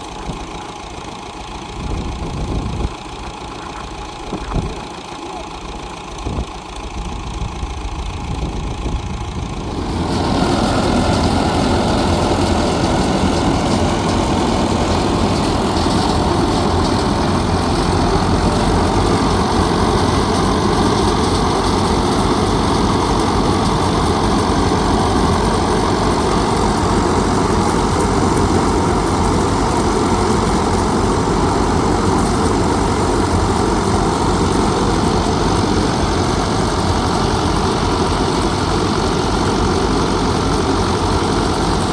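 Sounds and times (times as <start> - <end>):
engine-driven machine droning: 0.0 - 41.9.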